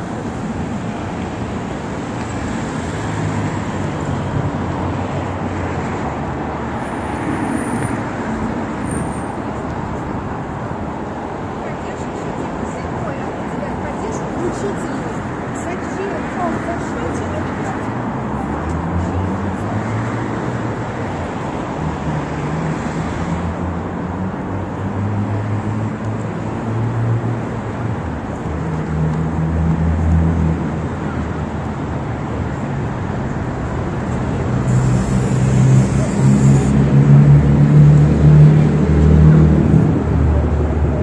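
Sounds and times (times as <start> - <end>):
vehicles passing close by: 0.0 - 41.0.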